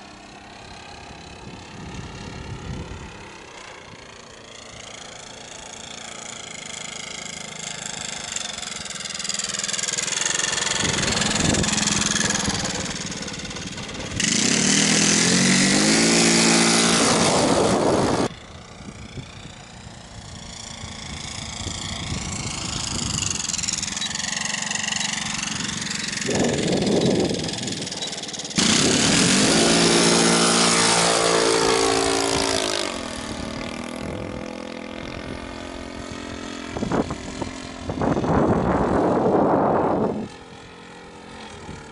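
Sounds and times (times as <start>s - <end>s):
model plane motor and propeller: 0.0s - 41.9s.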